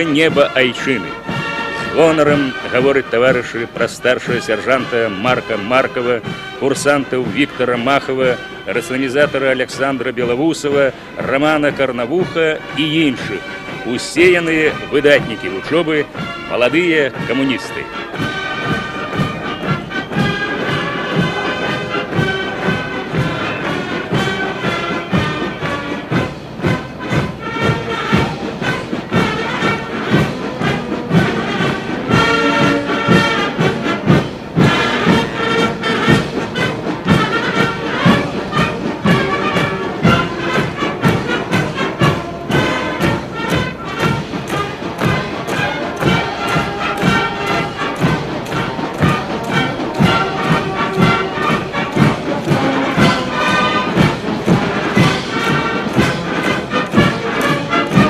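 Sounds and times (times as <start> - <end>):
military brass band playing a march: 0.0 - 58.0
steady drum beat: 0.0 - 58.0.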